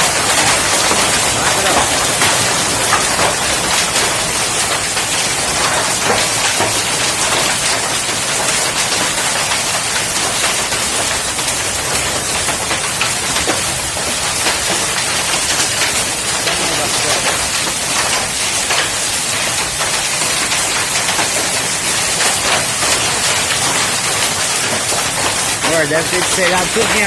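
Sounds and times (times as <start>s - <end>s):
hailstones striking hard surfaces: 0.0s - 27.0s
heavy rain: 0.0s - 27.0s.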